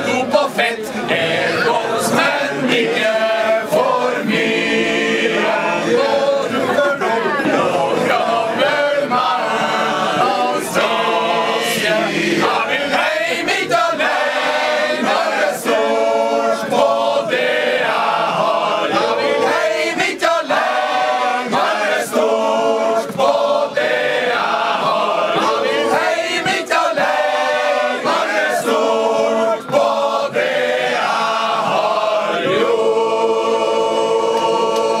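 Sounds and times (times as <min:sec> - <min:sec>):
male choir singing a capella: 0:00.0 - 0:35.0.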